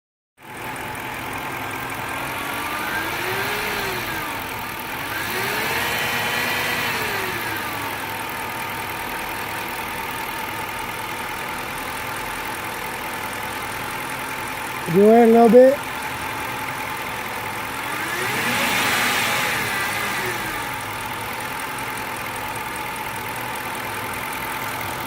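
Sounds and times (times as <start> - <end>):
car engine idling and revving: 0.4 - 25.0.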